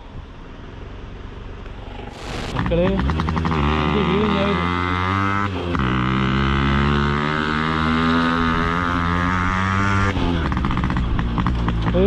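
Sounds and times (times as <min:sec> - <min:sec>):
motorcycle engine under load: 0:01.6 - 0:12.0.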